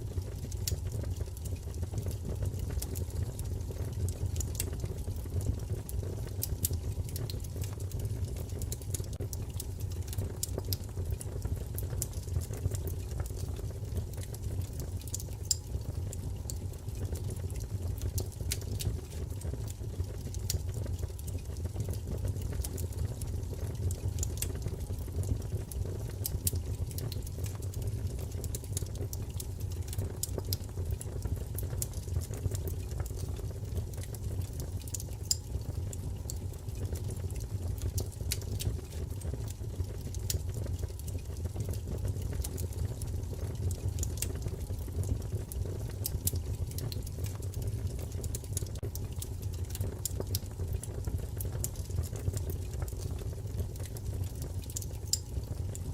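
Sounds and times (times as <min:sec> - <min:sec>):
low rumble of burning: 0:00.0 - 0:55.9
wood fire crackling: 0:00.0 - 0:55.9
sharp snaps and pops: 0:00.1 - 0:55.9.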